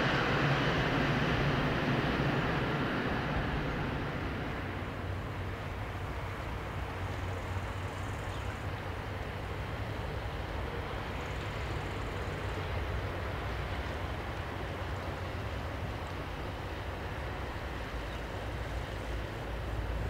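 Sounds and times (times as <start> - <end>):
diesel engine drone: 0.0 - 20.0
outdoor noise: 0.0 - 20.0.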